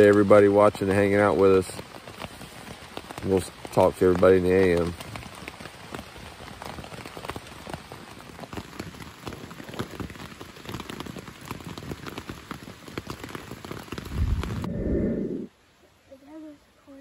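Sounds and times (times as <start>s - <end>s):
rain on a tent: 0.0s - 17.0s.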